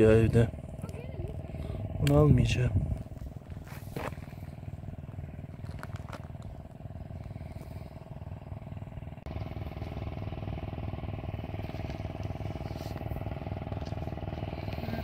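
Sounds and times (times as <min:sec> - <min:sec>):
engine running with rapid pulse: 0:00.0 - 0:15.0.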